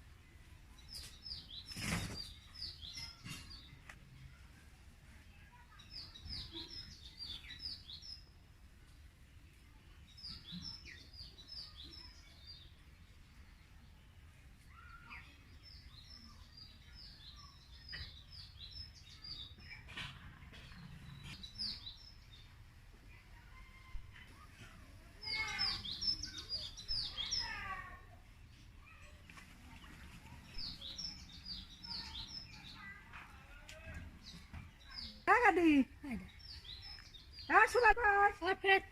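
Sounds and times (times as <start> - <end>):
birds chirping: 5.5 - 8.4, 9.4 - 38.9.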